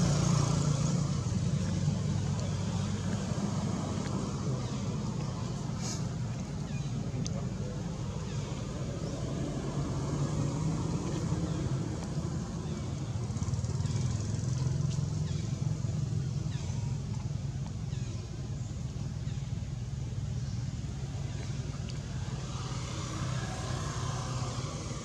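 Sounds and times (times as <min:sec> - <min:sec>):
motor engine humming: 0:00.0 - 0:25.0.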